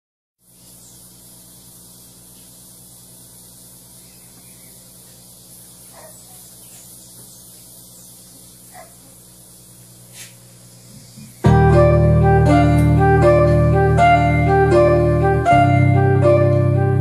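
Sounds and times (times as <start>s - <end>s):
low electrical hum: 0.4s - 17.0s
steady hiss: 0.4s - 17.0s.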